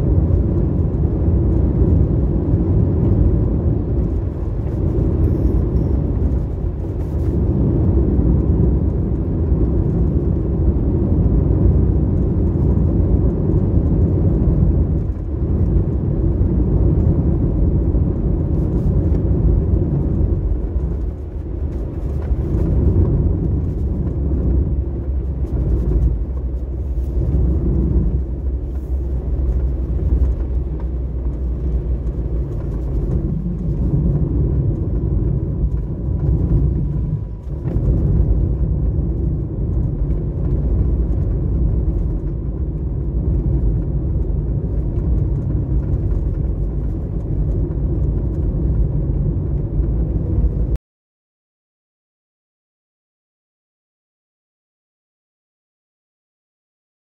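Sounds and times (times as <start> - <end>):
car driving on road: 0.0 - 50.8.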